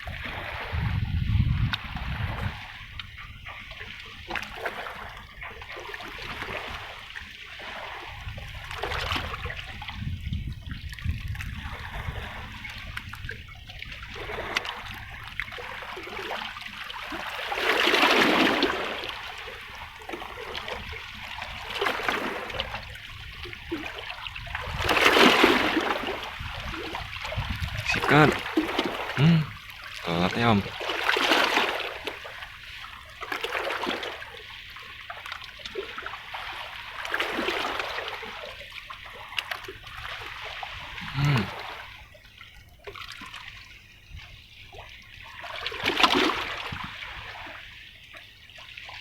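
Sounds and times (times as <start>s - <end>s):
water lapping against rocks: 0.0s - 49.0s
waves washing in and draining: 0.0s - 49.0s.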